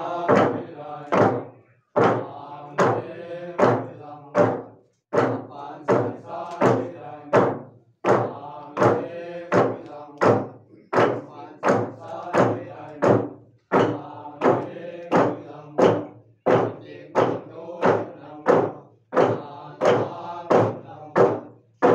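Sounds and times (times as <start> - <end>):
men chanting in unison: 0.0 - 21.9
wooden log drum strokes: 0.0 - 21.9.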